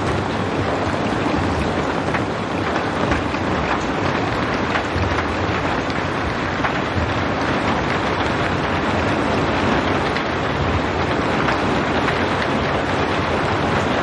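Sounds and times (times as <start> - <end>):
heavy rain hissing: 0.0 - 14.0
raindrops ticking: 0.0 - 14.0.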